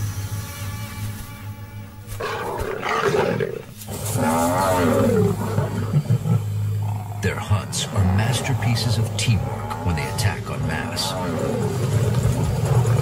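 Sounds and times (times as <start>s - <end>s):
background music: 0.0s - 13.0s
lions roaring: 2.2s - 13.0s.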